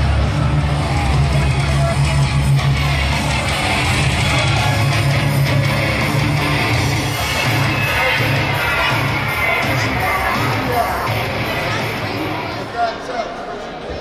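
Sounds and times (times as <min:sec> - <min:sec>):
rock music over loudspeakers: 0:00.0 - 0:12.6.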